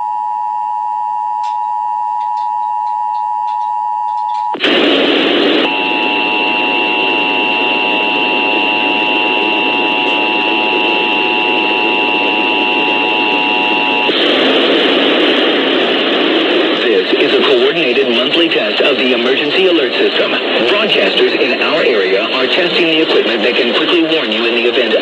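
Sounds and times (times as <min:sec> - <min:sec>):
lower steady tones: 0:00.6 - 0:25.0
hissing radio static: 0:04.6 - 0:25.0.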